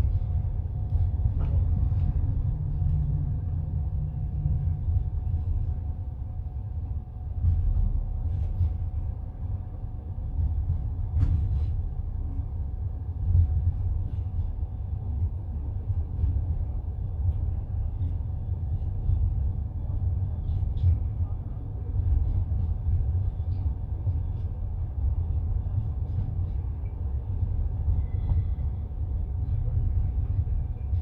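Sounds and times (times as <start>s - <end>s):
train carriage rumbling on rails: 0.0s - 31.0s.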